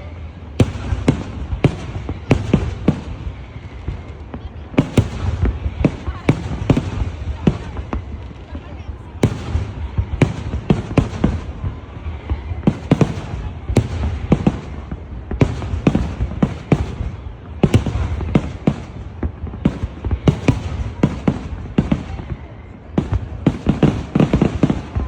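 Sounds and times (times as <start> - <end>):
fireworks bangs and cracks: 0.0 - 25.0
low rumble of explosions: 0.0 - 25.0.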